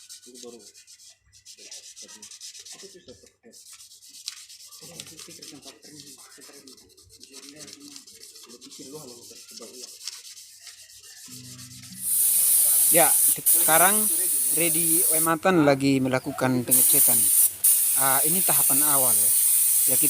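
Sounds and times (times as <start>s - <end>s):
sandpaper rubbing a surface: 0.0s - 15.4s, 16.7s - 20.0s.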